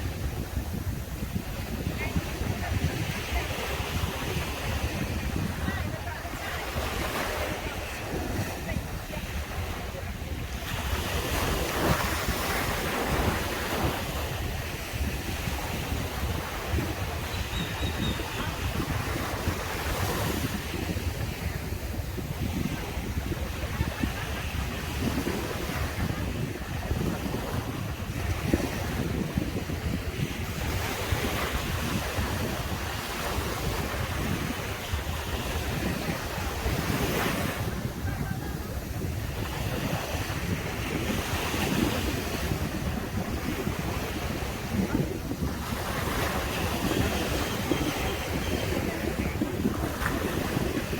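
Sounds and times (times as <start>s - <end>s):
surf breaking on a beach: 0.0s - 50.9s
wind buffeting microphone: 0.0s - 50.9s.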